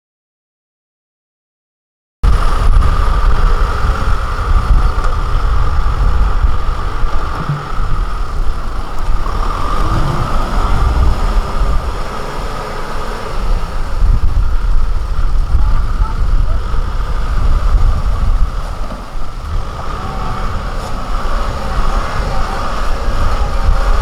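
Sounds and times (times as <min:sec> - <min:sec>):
diesel engine rumbling: 0:02.2 - 0:24.0.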